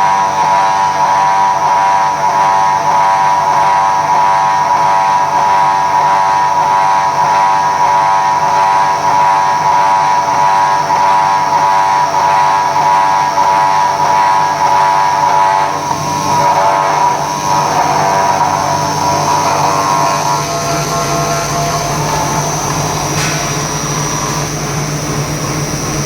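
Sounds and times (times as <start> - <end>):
circular saw machine whine: 0.0 - 26.0.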